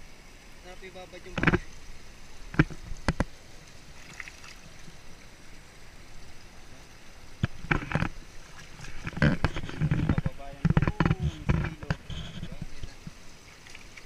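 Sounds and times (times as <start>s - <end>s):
water pouring over rock: 0.7s - 14.0s.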